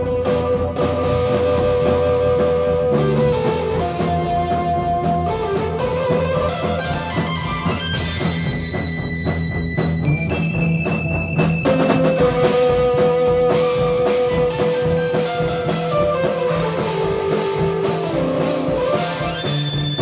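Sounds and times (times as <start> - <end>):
drum kit beat with cymbals: 0.0 - 20.0
guitar sustained notes: 0.0 - 20.0.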